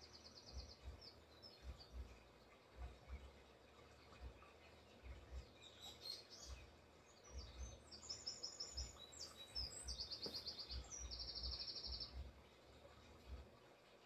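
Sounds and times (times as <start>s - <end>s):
songbird chirping and trilling: 0.0s - 14.0s.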